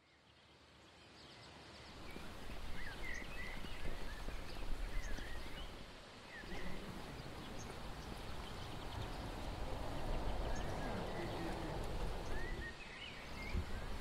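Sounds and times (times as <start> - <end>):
low background noise: 0.0 - 14.0
small birds chirping: 0.0 - 14.0.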